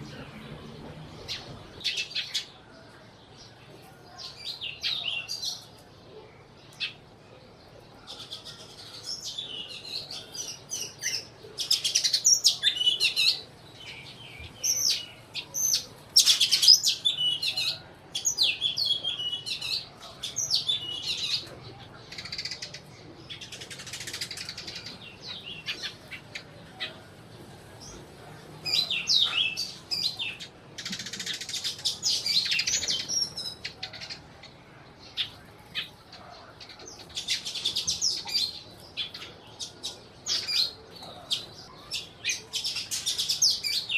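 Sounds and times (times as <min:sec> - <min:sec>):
sparrows chirping: 0:00.0 - 0:43.9.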